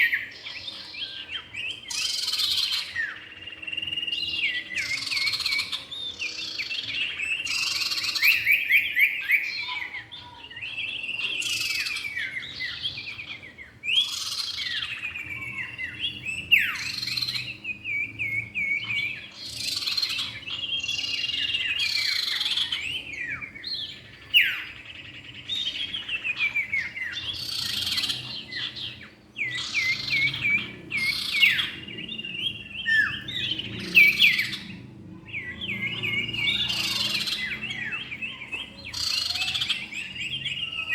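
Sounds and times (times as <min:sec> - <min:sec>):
birds chirping and whistling: 0:00.0 - 0:40.9.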